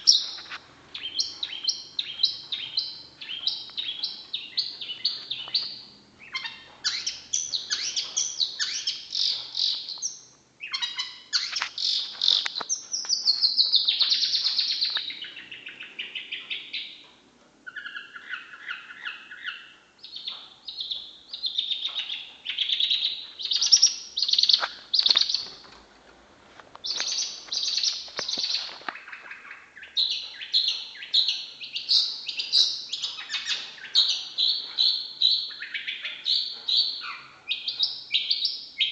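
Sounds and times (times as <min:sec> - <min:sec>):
shrike singing chirps and whistles: 0:00.0 - 0:17.0, 0:17.7 - 0:25.5, 0:26.8 - 0:38.9.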